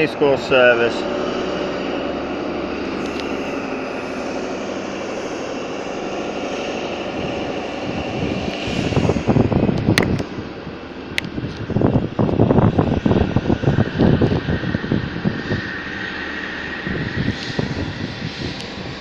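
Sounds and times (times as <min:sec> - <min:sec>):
diesel train engines running: 0:00.0 - 0:19.0
loud low rumble: 0:00.0 - 0:19.0.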